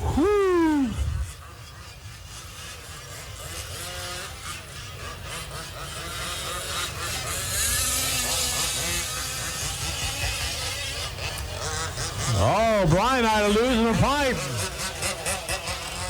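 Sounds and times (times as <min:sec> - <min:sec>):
small engines buzzing and revving: 0:00.0 - 0:16.0.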